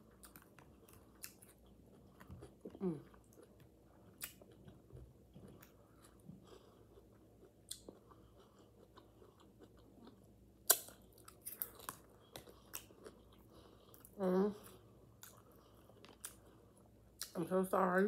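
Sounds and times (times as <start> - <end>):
chewing with wet mouth clicks: 0.1 - 14.1, 15.2 - 17.4.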